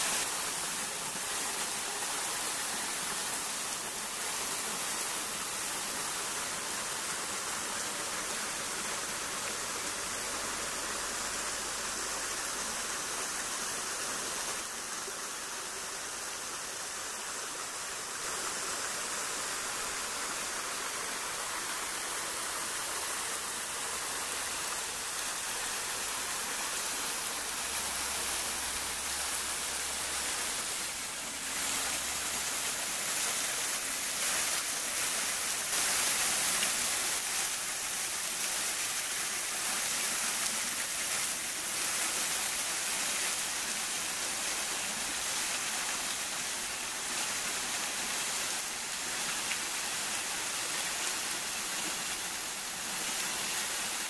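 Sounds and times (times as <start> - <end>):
small waterfall splashing on stones: 0.0 - 15.1, 17.7 - 54.0.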